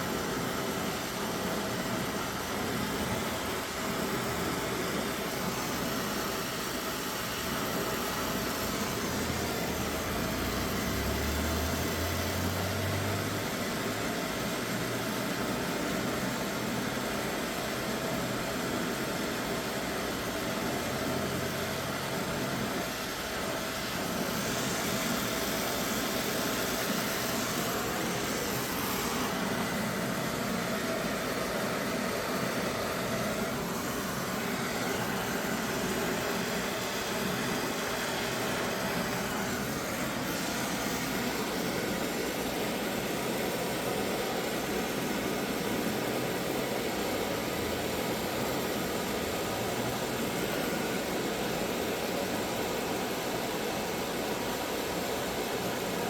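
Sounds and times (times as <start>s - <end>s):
torch flame hissing roar: 0.0s - 54.1s.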